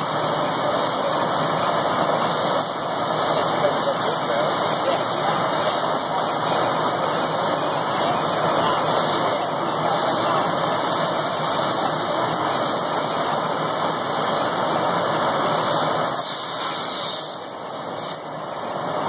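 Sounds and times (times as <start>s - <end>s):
gas jet hissing: 0.0s - 19.0s
laser cutter running noise: 0.0s - 19.0s.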